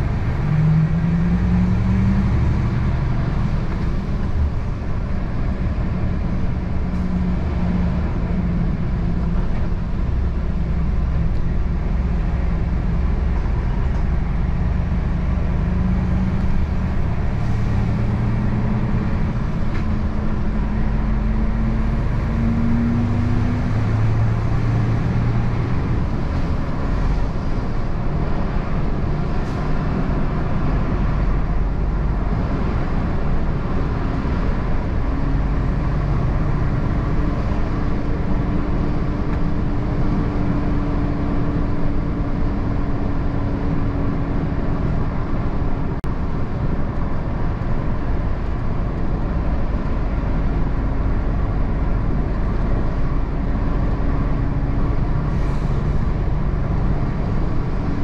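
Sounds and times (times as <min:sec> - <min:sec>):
road noise: 0:00.0 - 0:58.0
truck engine running: 0:00.0 - 0:58.0.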